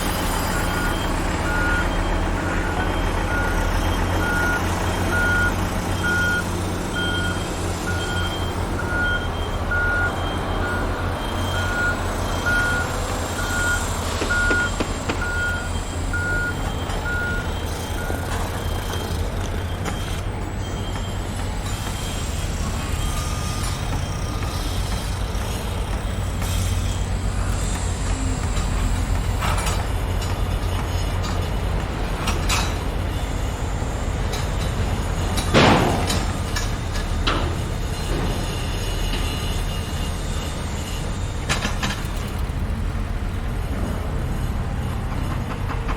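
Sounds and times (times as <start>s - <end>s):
truck reversing alarm beeping: 0.0s - 45.7s
diesel engine running: 0.0s - 45.9s.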